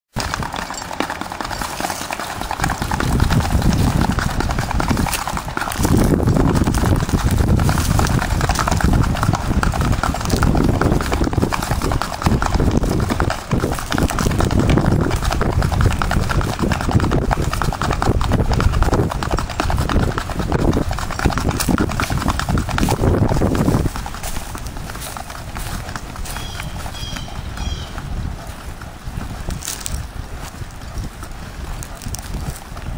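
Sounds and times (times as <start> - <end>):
horse hooves on gravel: 0.1 - 32.9.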